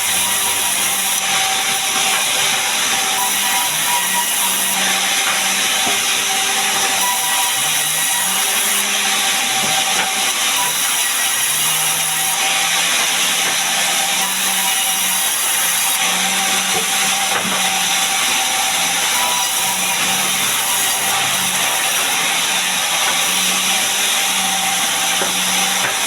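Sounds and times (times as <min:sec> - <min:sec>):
saw blade whining through wood: 0:00.0 - 0:26.0.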